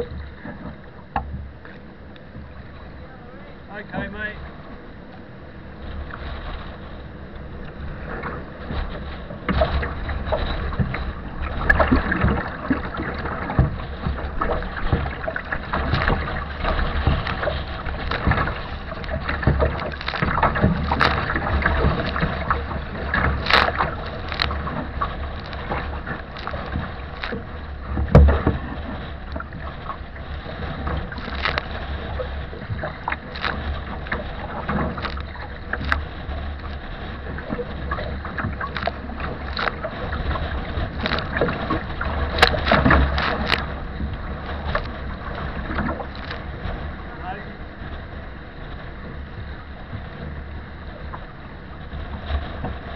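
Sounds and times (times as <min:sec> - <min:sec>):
waves splashing against kayak: 0:00.0 - 0:52.9
wind rumbling on microphone: 0:00.0 - 0:52.9.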